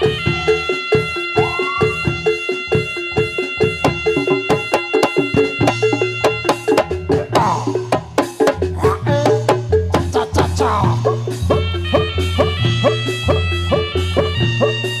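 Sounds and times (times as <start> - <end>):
fast steady drumming: 0.0 - 15.0
repeating two-note pitched pattern: 0.0 - 15.0.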